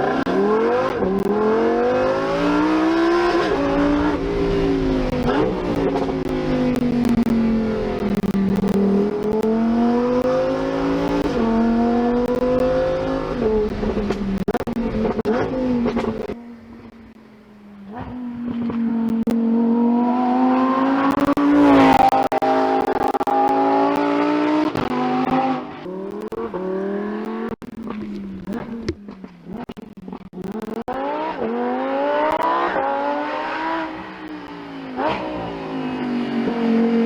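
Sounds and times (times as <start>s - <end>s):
car engine accelerating hard: 0.0s - 17.2s, 17.8s - 37.0s.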